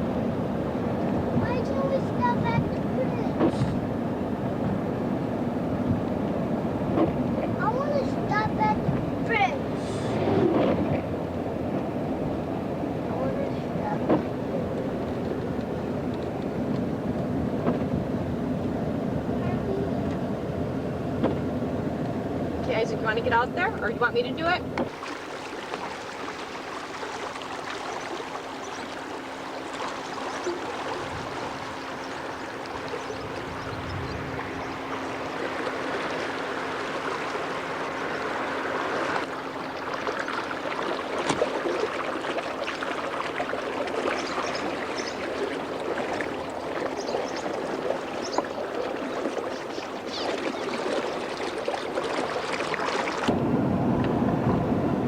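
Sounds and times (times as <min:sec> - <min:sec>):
creek water rushing: 0:00.0 - 0:55.0
faint steady hum: 0:00.0 - 0:55.0.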